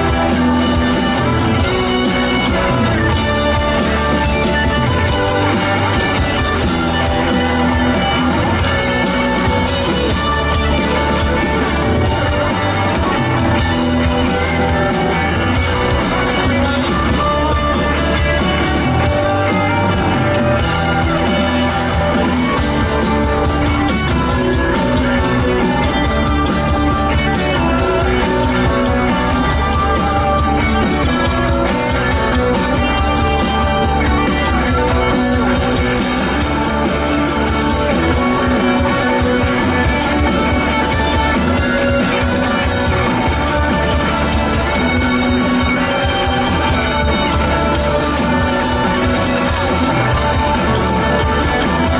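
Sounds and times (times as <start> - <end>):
rock band playing: 0.0 - 51.9.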